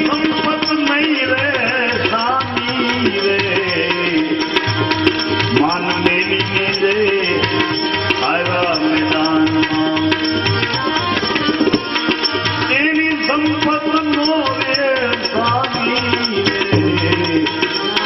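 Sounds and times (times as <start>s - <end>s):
tabla rhythm: 0.0s - 18.0s.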